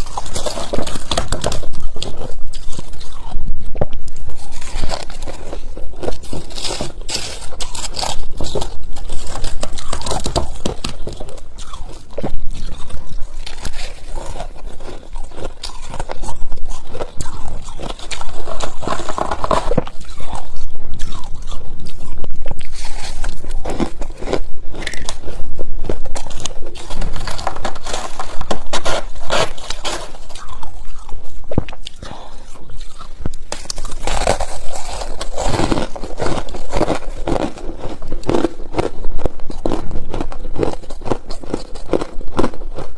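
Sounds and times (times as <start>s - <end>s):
chewing frost crunches: 0.0s - 42.9s.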